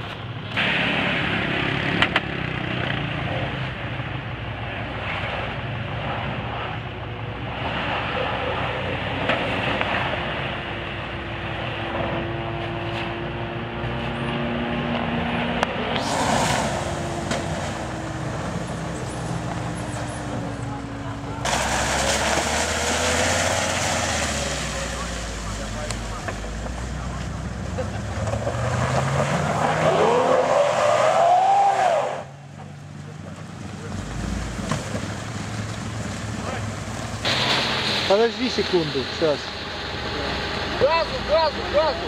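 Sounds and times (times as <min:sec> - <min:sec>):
engine working hard under load: 0:00.0 - 0:42.0.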